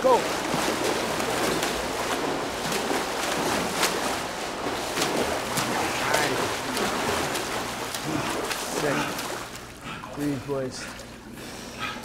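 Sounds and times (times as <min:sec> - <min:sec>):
hands slapping water: 0:00.0 - 0:11.2
swimmers splashing water: 0:00.0 - 0:12.0.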